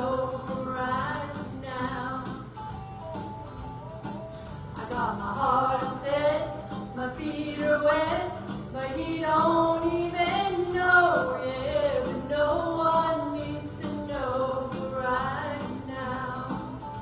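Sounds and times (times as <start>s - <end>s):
woman singing: 0.0s - 2.5s, 4.8s - 16.8s
instrumental backing music: 0.0s - 17.0s.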